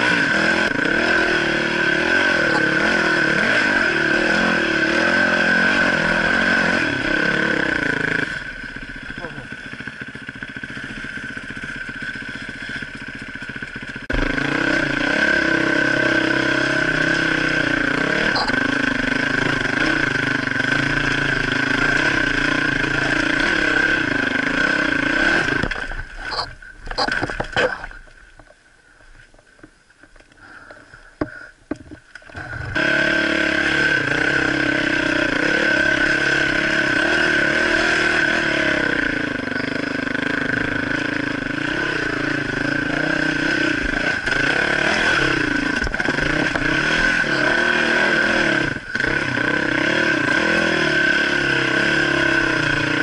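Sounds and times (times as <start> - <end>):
dirt bike engine revving: 0.0 - 27.5, 32.3 - 53.0.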